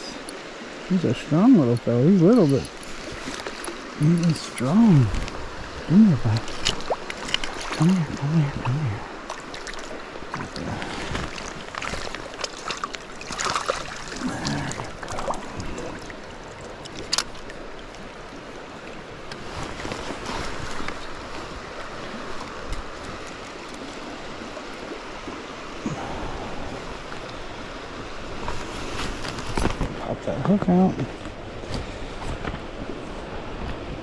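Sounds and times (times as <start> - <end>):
stream water running: 0.0 - 34.0
water splashes and knocks: 1.1 - 24.0, 28.2 - 33.0.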